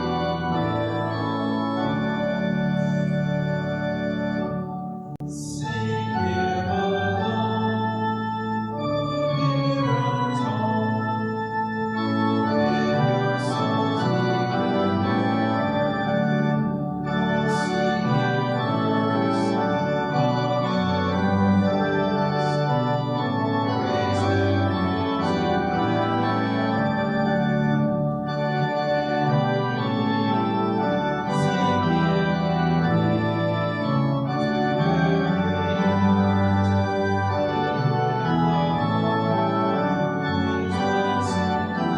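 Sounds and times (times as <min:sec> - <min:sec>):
church organ chords: 0:00.0 - 0:41.9.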